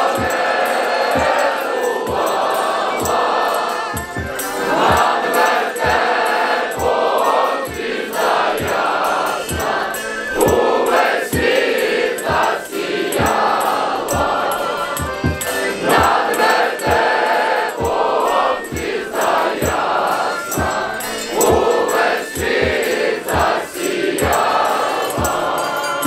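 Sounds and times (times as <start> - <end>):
crowd singing a carol: 0.0 - 26.0
low thumps keeping a beat: 0.0 - 26.0.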